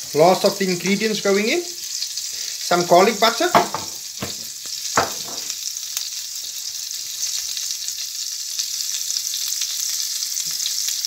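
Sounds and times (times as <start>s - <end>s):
butter sizzling in a frying pan: 0.0s - 11.0s.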